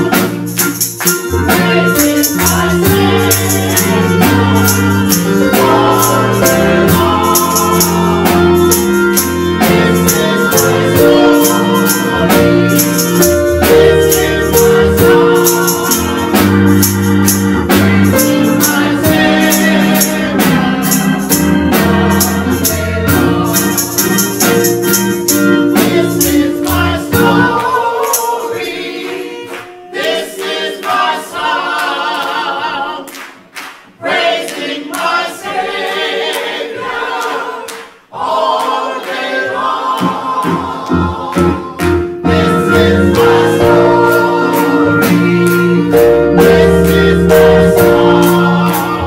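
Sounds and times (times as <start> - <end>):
instrumental backing with beat: 0.0 - 32.1, 33.4 - 49.0
gospel choir singing: 0.0 - 49.0.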